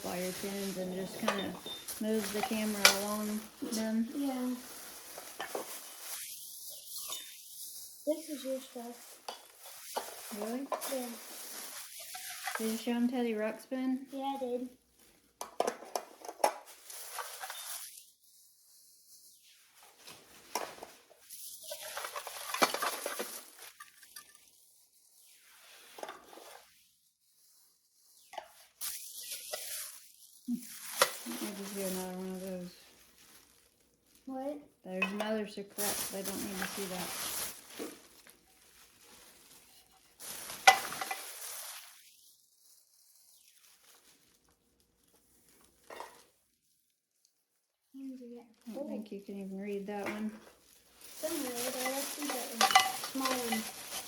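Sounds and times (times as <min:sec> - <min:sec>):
rustling and handling noise: 0:00.0 - 0:54.0.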